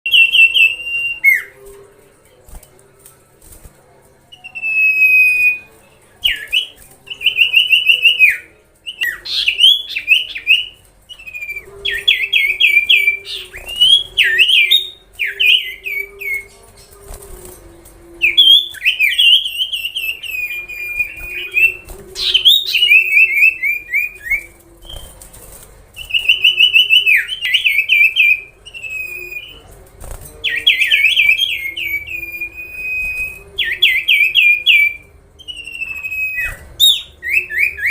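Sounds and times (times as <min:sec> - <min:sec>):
songbird whistles and trills: 0:00.1 - 0:01.6, 0:04.3 - 0:16.5, 0:18.2 - 0:25.2, 0:26.0 - 0:29.6, 0:30.4 - 0:37.9.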